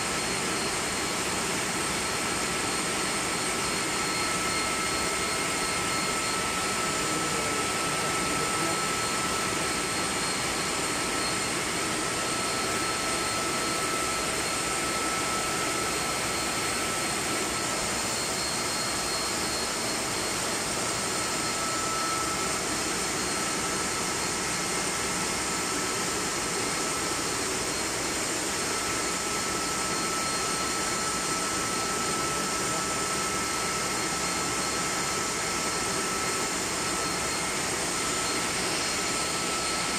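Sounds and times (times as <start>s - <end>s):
burner blower rushing and whining: 0.0s - 39.9s.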